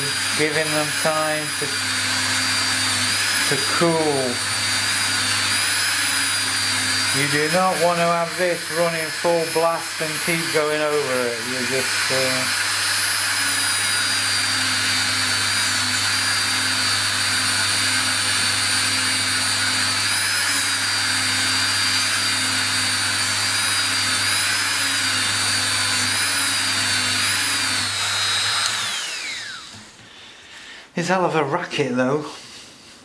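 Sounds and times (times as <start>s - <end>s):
rotary tool motor whine: 0.0s - 29.9s.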